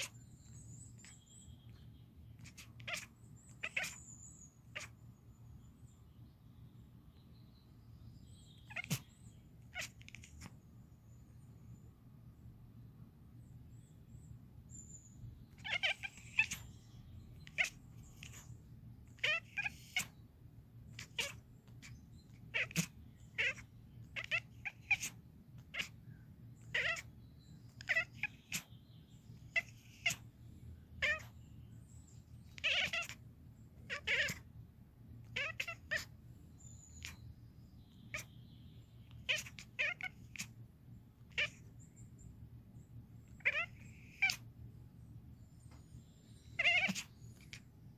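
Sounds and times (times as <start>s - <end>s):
cat chattering: 0.0s - 6.0s, 8.4s - 11.2s, 14.7s - 42.4s, 43.2s - 44.6s, 46.2s - 47.9s.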